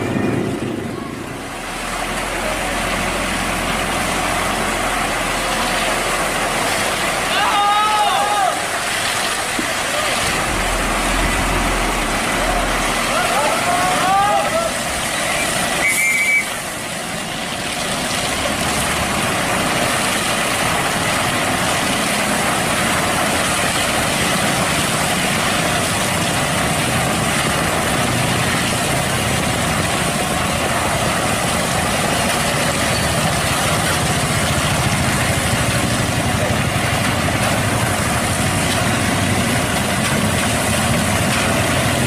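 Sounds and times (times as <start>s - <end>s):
diesel truck engine running: 0.0s - 7.3s, 8.6s - 42.0s.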